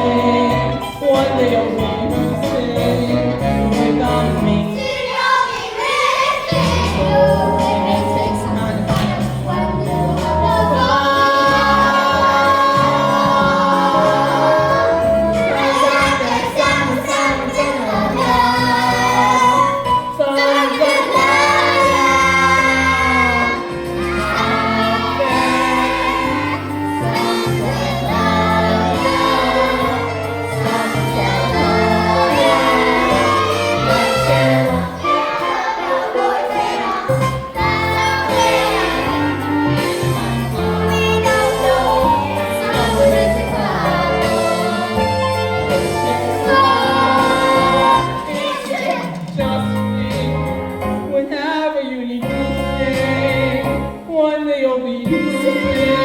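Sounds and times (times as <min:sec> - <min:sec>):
instrumental accompaniment: 0:00.0 - 0:51.5
young voices singing: 0:00.0 - 0:56.0.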